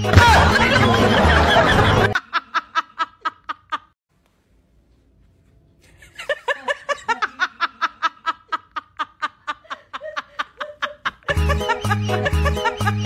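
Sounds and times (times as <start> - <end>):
woman laughing: 0.2 - 4.0, 5.8 - 13.0.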